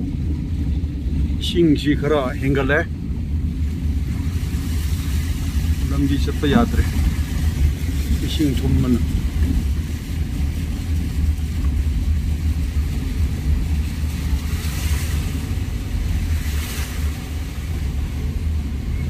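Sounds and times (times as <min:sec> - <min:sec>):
car engine and road rumble: 0:00.0 - 0:19.0
water splashing: 0:00.0 - 0:19.0.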